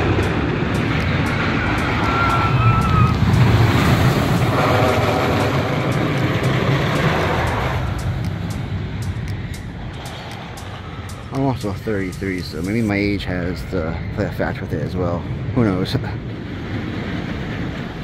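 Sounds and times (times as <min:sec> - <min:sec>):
roller coaster rumbling on wooden track: 0:00.0 - 0:18.0.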